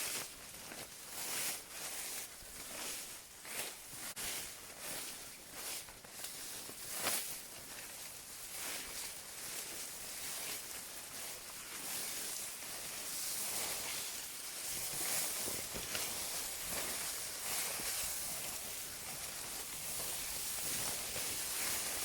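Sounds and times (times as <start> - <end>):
footsteps on trail: 0.0 - 11.0, 11.6 - 22.0
rustling: 0.0 - 22.0
steady hiss: 2.1 - 22.0.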